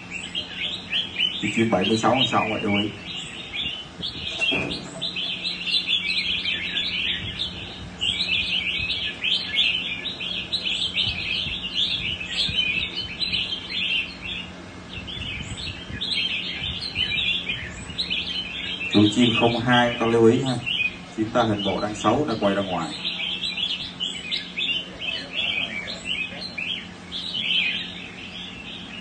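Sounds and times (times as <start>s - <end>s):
songbirds singing: 0.0s - 29.0s.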